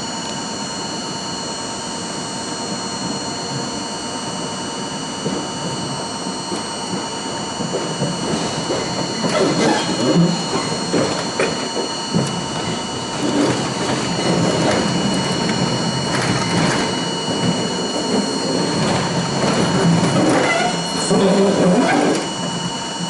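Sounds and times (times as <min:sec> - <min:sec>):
subway wheel-on-rail rumble: 0:00.0 - 0:23.0.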